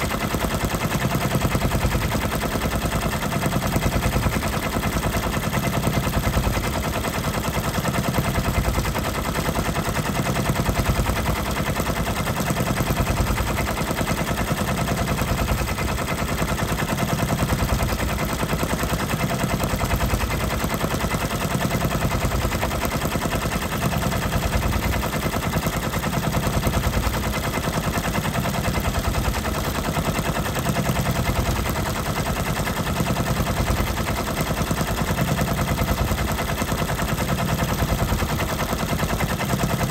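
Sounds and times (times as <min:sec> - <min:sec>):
embroidery machine needle clatter: 0:00.0 - 0:39.9.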